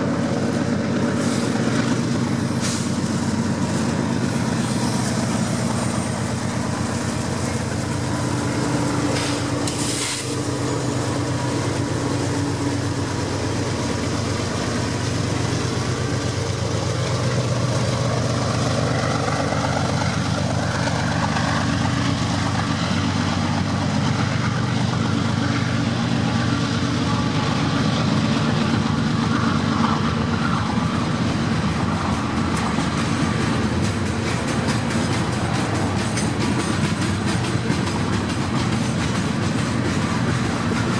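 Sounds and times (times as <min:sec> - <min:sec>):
locomotives rumbling: 0:00.0 - 0:40.9
train wheels on rails: 0:00.0 - 0:40.9.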